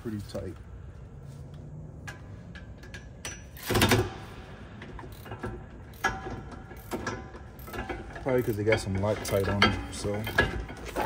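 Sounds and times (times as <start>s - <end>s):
hand tools clicking and clanking: 2.0s - 11.0s.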